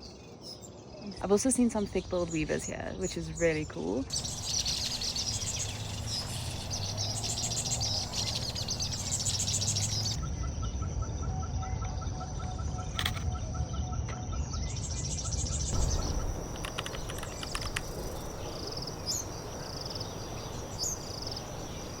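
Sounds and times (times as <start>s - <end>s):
songbirds chattering: 0.0s - 10.5s, 14.7s - 22.0s.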